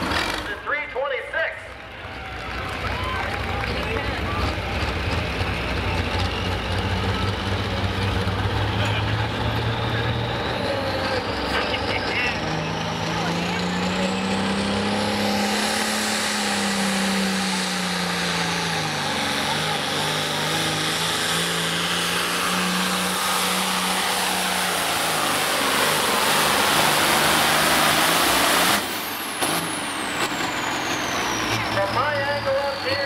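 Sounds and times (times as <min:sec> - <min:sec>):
high turbo whine: 0:00.0 - 0:33.0
tractor diesel engine at full throttle: 0:00.0 - 0:33.0.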